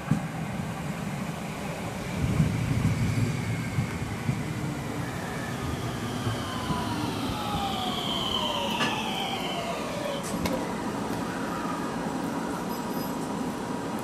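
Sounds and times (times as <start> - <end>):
train traction motors whining: 0.4 - 13.3.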